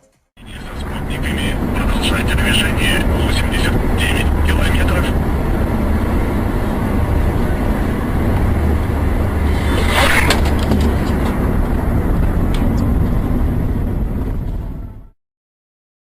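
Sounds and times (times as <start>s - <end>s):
car road and engine rumble: 0.4s - 15.2s.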